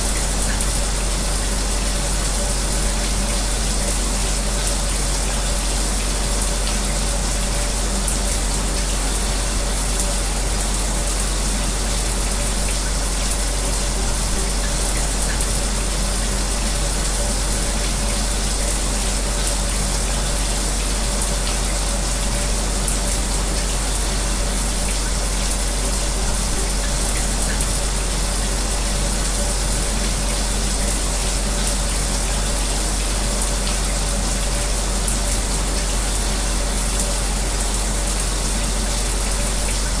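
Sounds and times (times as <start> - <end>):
shower water spraying: 0.0 - 40.0.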